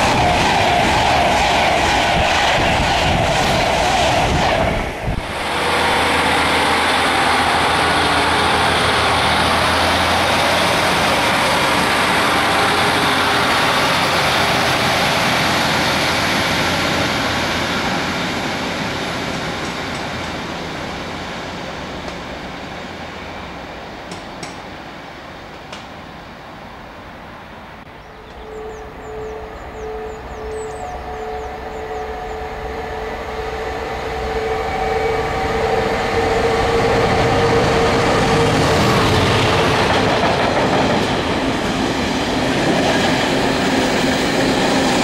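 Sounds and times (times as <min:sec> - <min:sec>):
diesel train engine and wheel rumble: 0:00.0 - 0:45.0
passenger train rushing past: 0:00.0 - 0:45.0.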